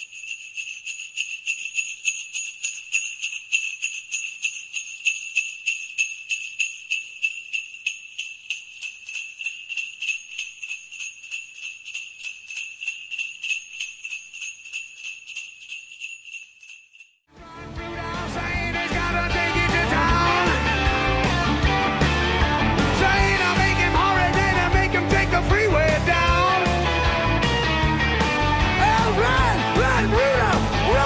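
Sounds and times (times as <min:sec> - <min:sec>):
jingle bells shaken: 0:00.0 - 0:17.3, 0:18.0 - 0:21.5, 0:22.8 - 0:27.6, 0:28.6 - 0:31.0.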